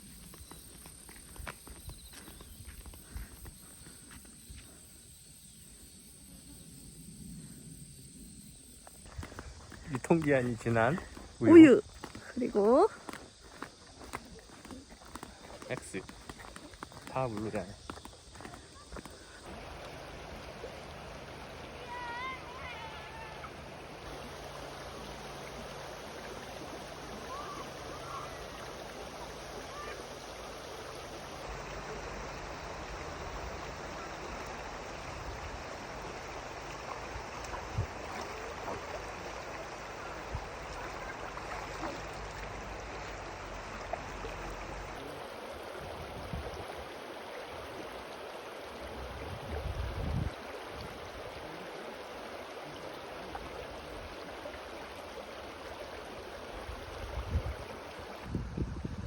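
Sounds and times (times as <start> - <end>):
stream water rushing: 9.0 - 59.0.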